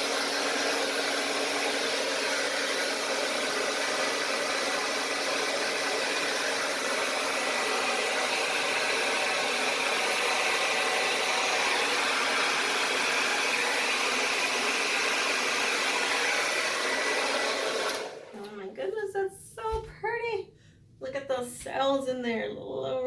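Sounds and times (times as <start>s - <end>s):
blow dryer running: 0.0s - 18.6s.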